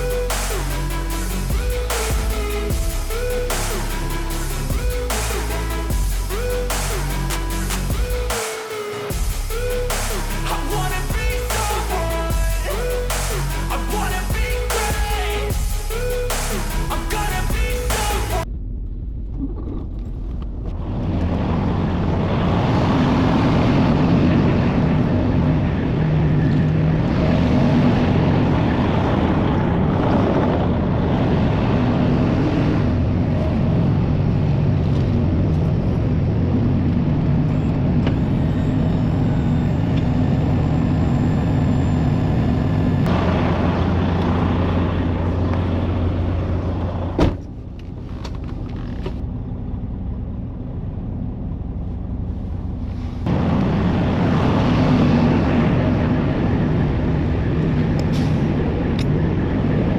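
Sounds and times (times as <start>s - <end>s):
truck engine and road noise: 0.0s - 59.9s.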